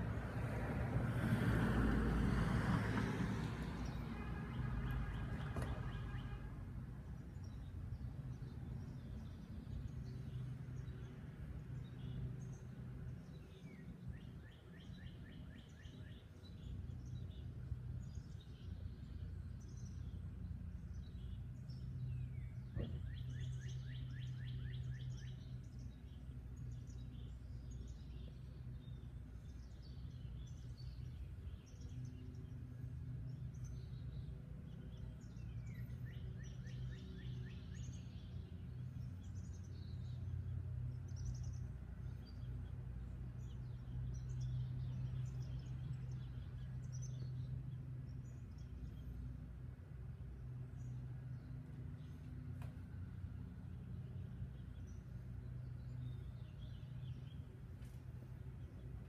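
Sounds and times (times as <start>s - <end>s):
small birds chirping: 7.0s - 59.0s.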